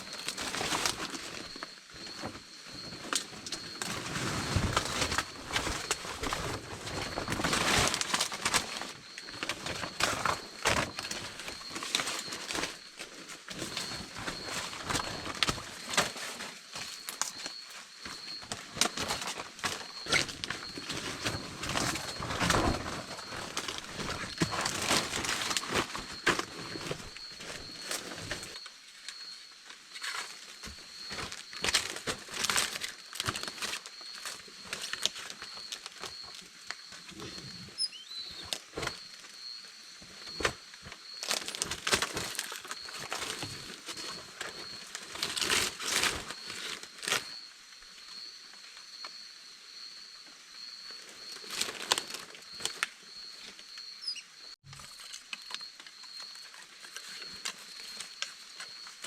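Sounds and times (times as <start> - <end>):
rustling and crackling: 0.0 - 47.5.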